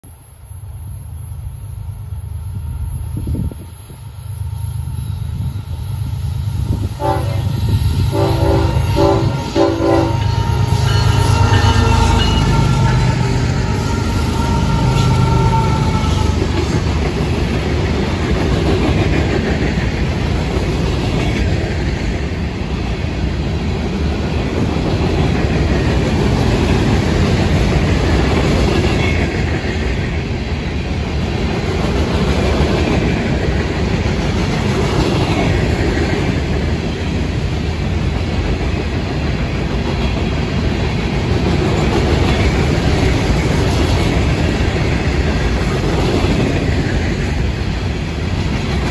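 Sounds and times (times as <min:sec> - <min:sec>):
diesel locomotive engine: 0:00.0 - 0:48.9
freight train wheels clattering: 0:06.6 - 0:48.9.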